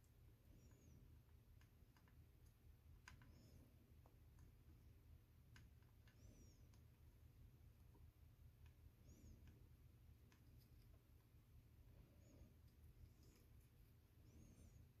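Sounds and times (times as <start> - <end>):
faint clicks and ticks: 0.0 - 15.0
faint low hum: 0.0 - 15.0.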